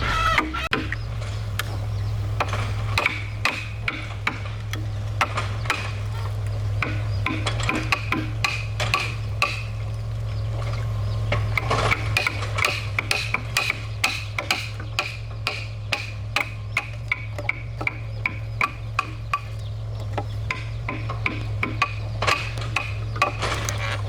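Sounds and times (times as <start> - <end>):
low hum: 0.0 - 24.0
sharp knocks: 0.0 - 24.0.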